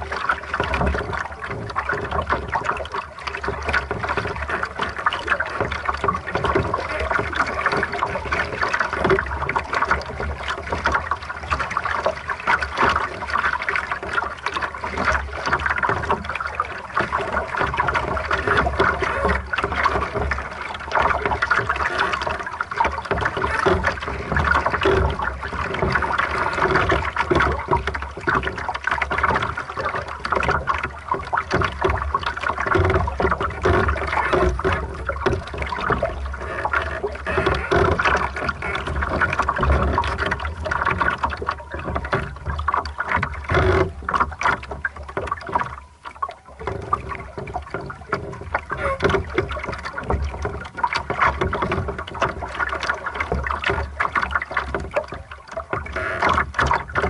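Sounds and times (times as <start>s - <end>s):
water splashing against hull: 0.0s - 57.0s.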